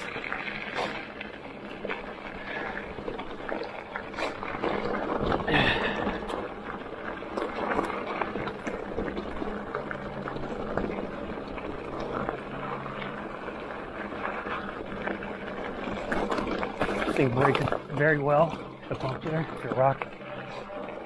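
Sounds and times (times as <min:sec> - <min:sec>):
bike knocking and rattling: 0:00.0 - 0:21.0
bike tyres crunching over stones: 0:00.0 - 0:21.0.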